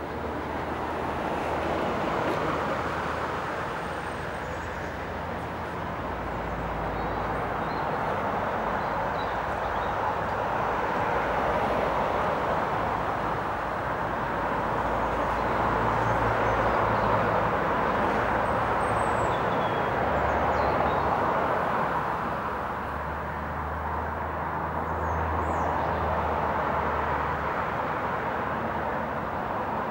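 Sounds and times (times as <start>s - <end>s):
vehicles passing: 0.0s - 29.9s.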